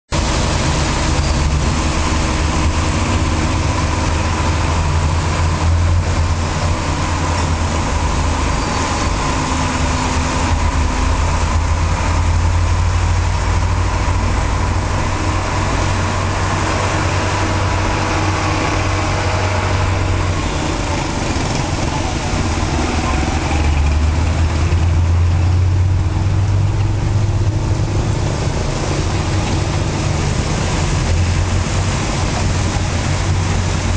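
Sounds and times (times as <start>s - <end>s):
vehicle engines running: 0.1s - 33.9s
tyres hissing on wet road: 0.2s - 33.9s.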